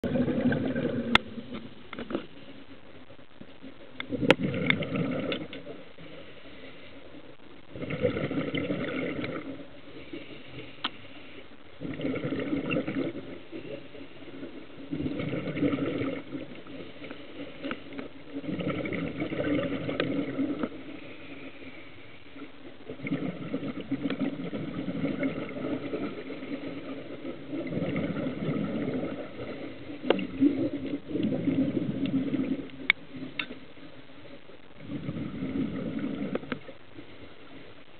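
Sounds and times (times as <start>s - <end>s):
underwater breath bubbling: 0.0s - 1.4s, 4.0s - 33.4s, 34.8s - 37.4s.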